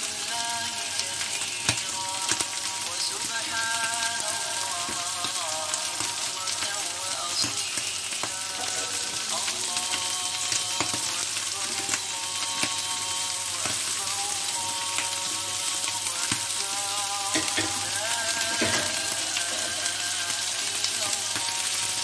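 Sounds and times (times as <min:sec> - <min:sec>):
meat sizzling on a griddle: 0:00.0 - 0:22.0.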